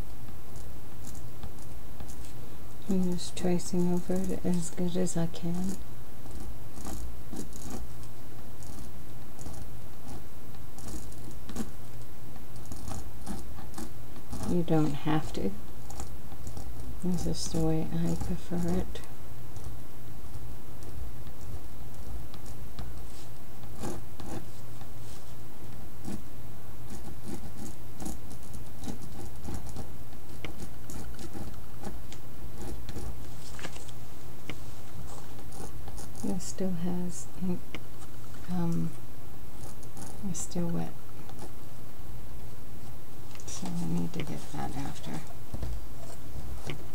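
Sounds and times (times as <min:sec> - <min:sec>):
steady low hum: 0:00.0 - 0:46.9
pen scratching on paper: 0:00.5 - 0:11.8, 0:12.5 - 0:19.7, 0:20.3 - 0:25.3, 0:26.0 - 0:26.3, 0:26.9 - 0:33.8, 0:34.5 - 0:37.1, 0:39.6 - 0:41.6, 0:43.5 - 0:46.9.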